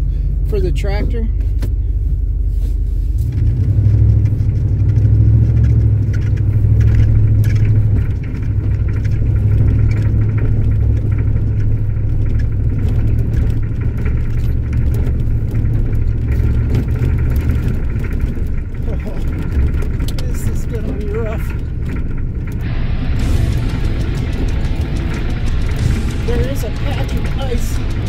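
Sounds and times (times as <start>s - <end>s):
pickup engine rumbling: 0.0s - 28.0s.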